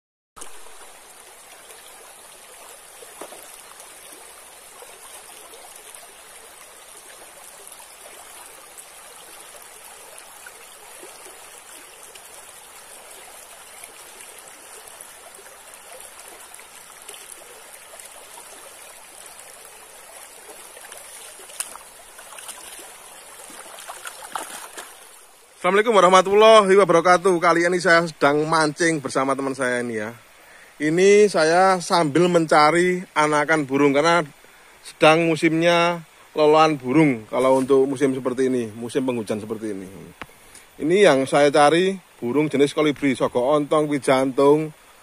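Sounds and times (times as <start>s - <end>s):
stream flowing over rocks: 0.4s - 45.0s.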